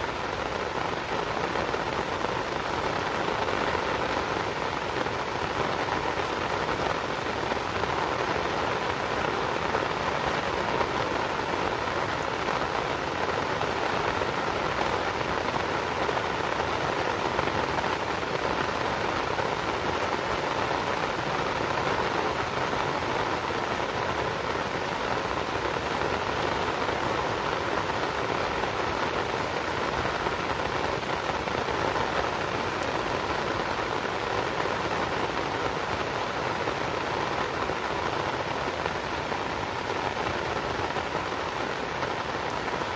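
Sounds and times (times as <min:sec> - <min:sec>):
steady rain hiss: 0:00.0 - 0:42.9.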